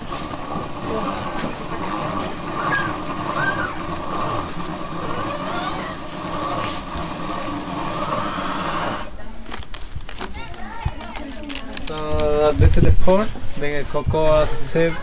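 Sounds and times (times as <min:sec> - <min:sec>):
cocoa beans grinding: 0:00.0 - 0:12.9.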